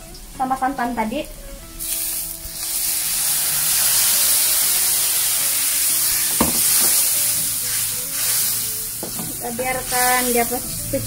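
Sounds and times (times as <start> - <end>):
curry paste sizzling in wok: 1.8 - 11.0.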